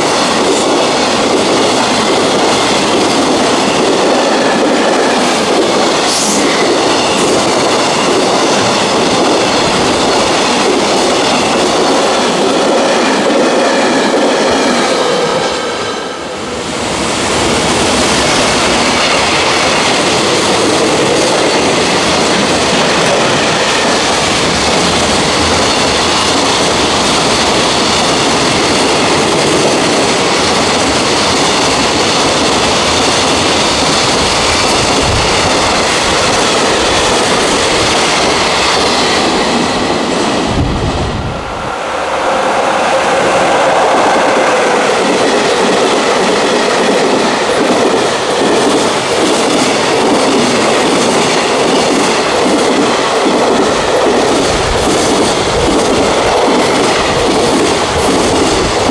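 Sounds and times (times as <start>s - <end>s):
freight train wheels clattering: 0.0s - 16.0s, 16.6s - 40.8s, 41.8s - 58.9s.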